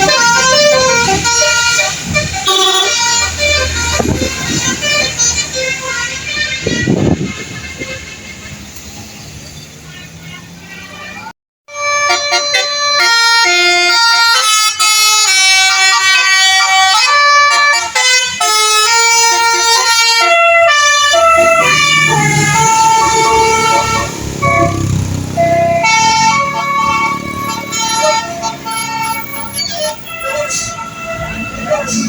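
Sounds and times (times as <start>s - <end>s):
musical bus horn: 0.0s - 8.9s, 10.4s - 32.0s
heavy vehicle engine rumbling: 0.0s - 11.4s, 12.2s - 32.0s.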